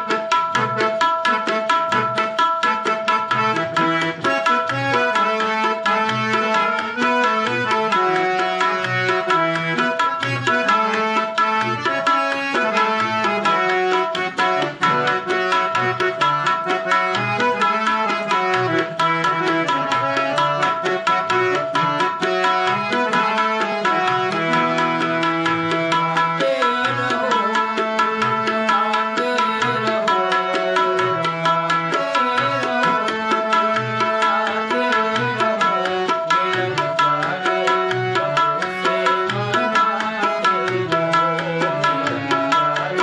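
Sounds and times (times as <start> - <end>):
harmonium melody: 0.0 - 43.0
tabla rhythm: 0.0 - 43.0.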